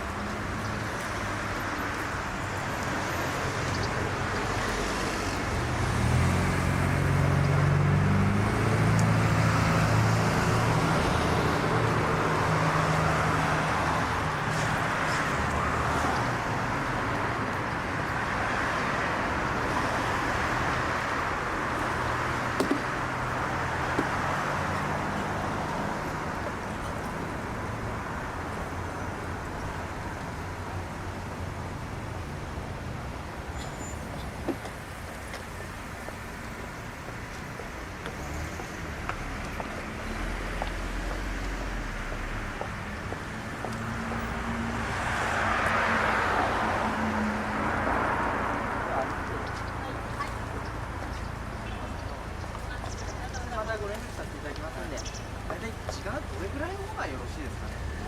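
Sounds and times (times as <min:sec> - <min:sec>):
hum of passing cars: 0:00.0 - 0:58.0.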